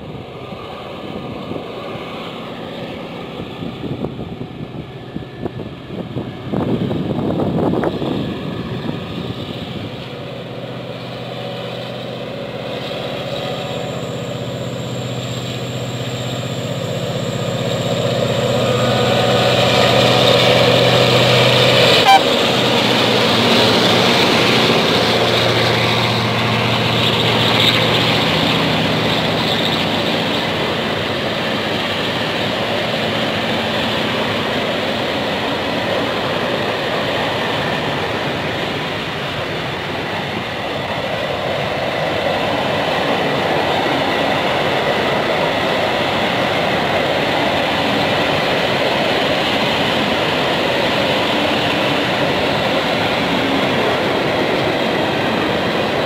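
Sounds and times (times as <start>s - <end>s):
diesel locomotive engine hum: 0.0s - 56.0s
train rumbling on track: 0.0s - 56.0s.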